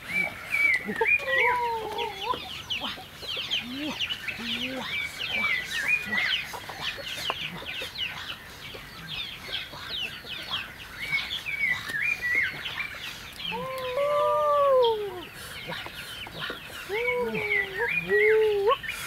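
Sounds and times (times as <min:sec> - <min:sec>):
birds chirping: 0:00.0 - 0:19.0
long rising and falling bird call: 0:00.0 - 0:19.0.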